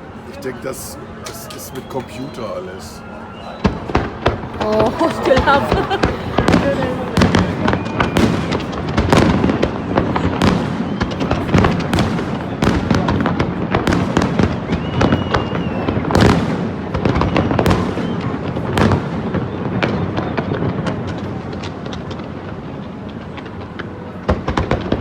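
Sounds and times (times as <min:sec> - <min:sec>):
fireworks banging and crackling: 0:00.0 - 0:25.0.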